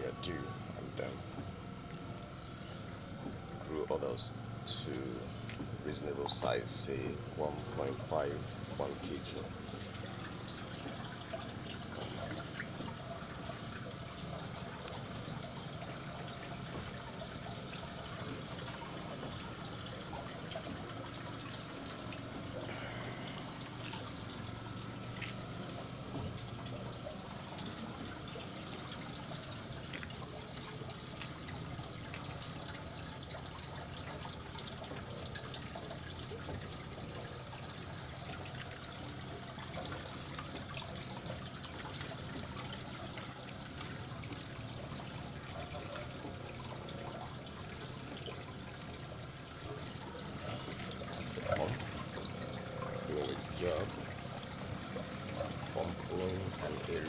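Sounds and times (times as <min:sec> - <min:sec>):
water trickling into tank: 0:00.0 - 0:57.0.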